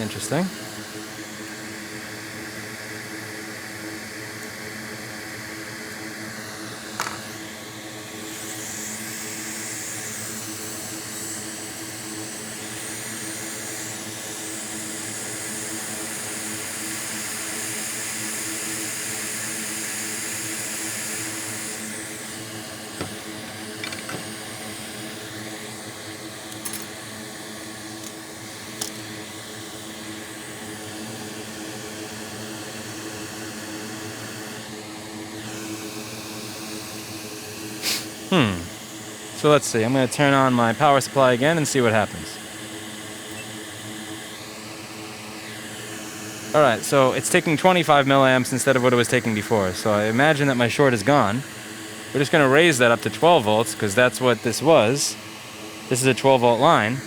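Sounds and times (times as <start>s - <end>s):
fan hum: 0.0s - 31.8s, 33.6s - 57.0s
hot air station hissing: 0.0s - 57.0s.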